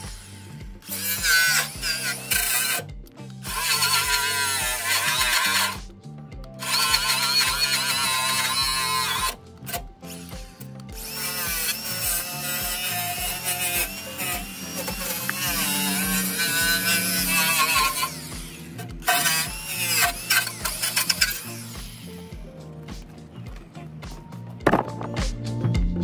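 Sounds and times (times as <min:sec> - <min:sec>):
angle grinder whine: 0:00.0 - 0:23.6
background music with steady beat: 0:00.0 - 0:26.0.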